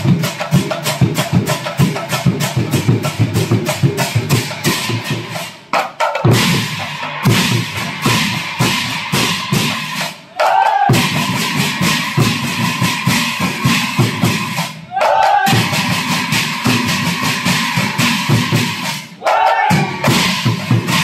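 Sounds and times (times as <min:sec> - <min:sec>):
drums beating: 0:00.0 - 0:21.0
hand cymbals clashing: 0:00.0 - 0:21.0.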